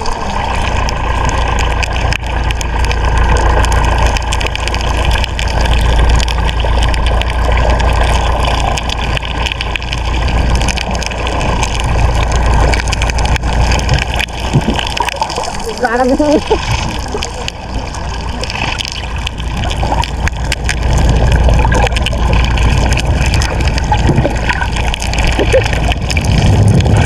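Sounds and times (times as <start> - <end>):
boat engine rumbling: 0.0 - 27.0.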